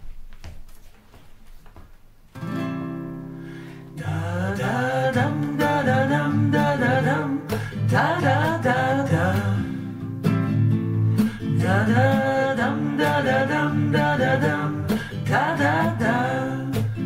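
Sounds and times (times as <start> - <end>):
strummed guitar rhythm: 2.3 - 17.0.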